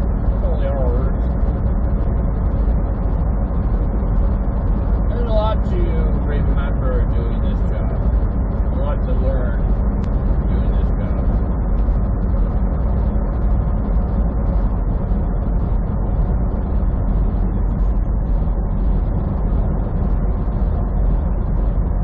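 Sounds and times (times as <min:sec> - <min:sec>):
truck engine drone in cab: 0:00.0 - 0:22.0.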